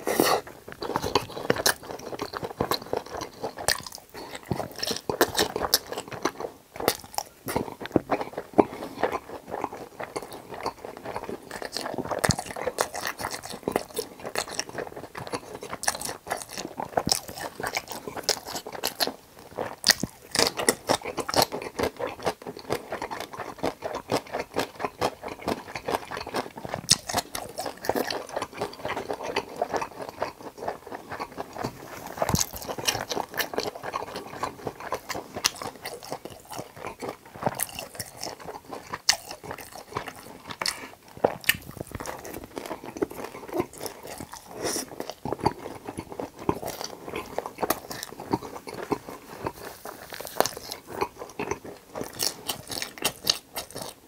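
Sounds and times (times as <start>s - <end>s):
crunchy chewing and biting: 0.0s - 54.0s.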